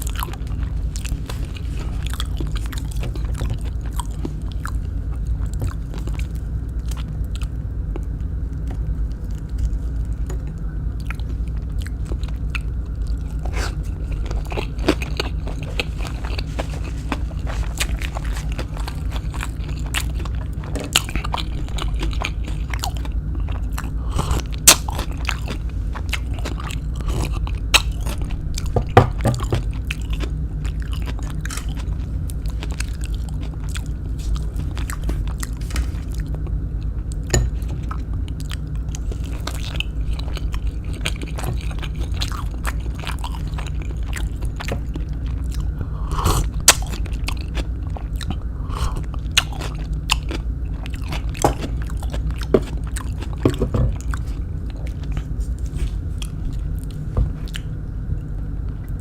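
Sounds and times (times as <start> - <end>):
crisp crunching while chewing: 0.0 - 57.8
steady low hum: 0.0 - 59.0.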